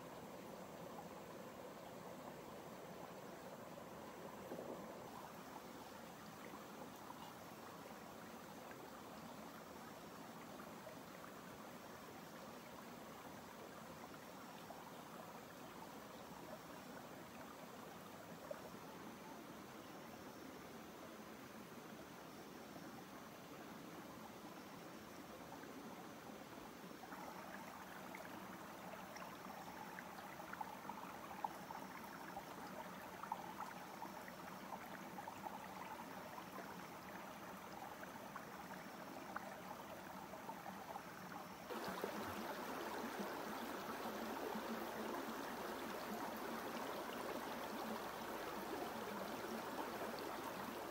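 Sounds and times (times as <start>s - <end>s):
stream trickling: 0.0s - 50.9s.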